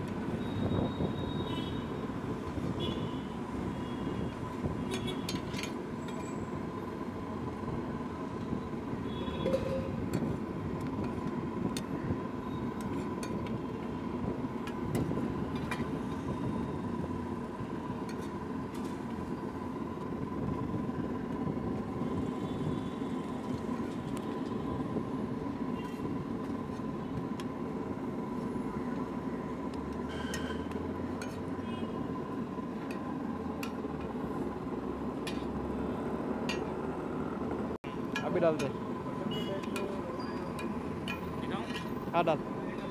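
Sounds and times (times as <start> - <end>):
street traffic: 0.0 - 42.9.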